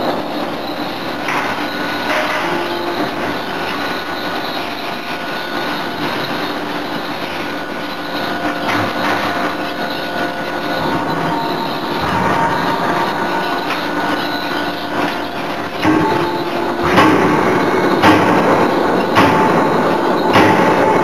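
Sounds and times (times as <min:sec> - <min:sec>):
faint whining tones: 0:00.0 - 0:21.0
forge machinery noise: 0:00.0 - 0:21.0.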